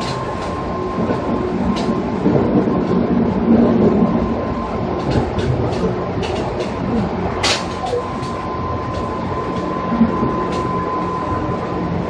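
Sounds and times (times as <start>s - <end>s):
train wheel and motor rumble: 0.0s - 12.0s.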